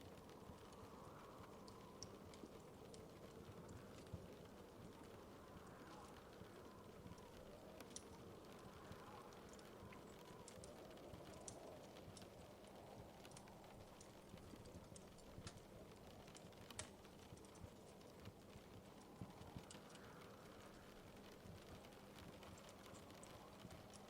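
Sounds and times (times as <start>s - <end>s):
low rumble of flames: 0.0s - 24.0s
wood fire crackling: 0.0s - 24.0s.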